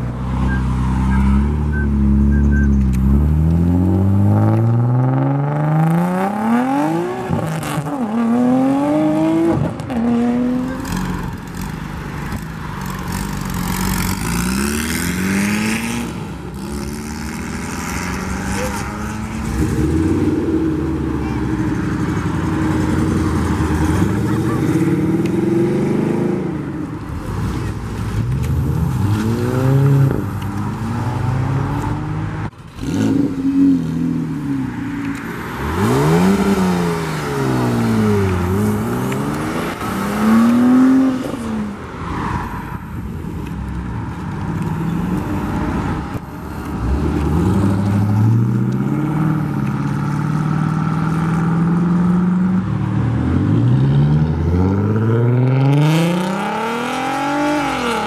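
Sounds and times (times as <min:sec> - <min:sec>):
car engines accelerating: 0:00.0 - 0:58.0.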